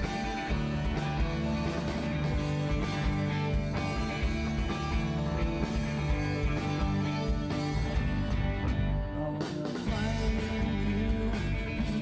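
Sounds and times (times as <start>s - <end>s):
bass guitar: 0.0s - 12.0s
drums keeping a beat: 0.0s - 12.0s
electric guitars: 0.0s - 12.0s.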